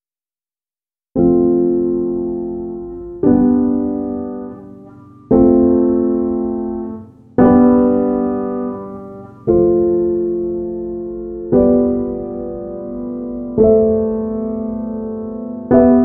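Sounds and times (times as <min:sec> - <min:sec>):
slow piano chords: 0:01.2 - 0:16.0.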